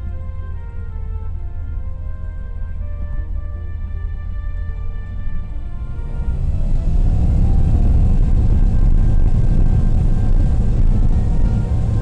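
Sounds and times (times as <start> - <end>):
aircraft engine rumble in cockpit: 0.0 - 12.0
background music: 0.0 - 12.0.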